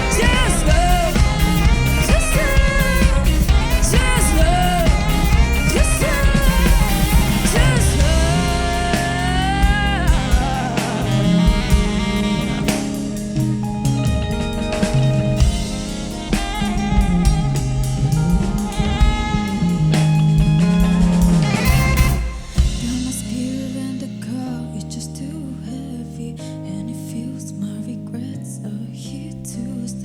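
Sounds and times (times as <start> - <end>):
bass line: 0.0 - 26.8
guitar: 0.0 - 30.0.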